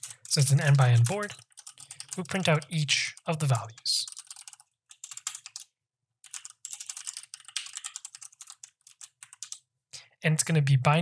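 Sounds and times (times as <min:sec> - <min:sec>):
typing on computer keyboard: 0:00.0 - 0:09.6.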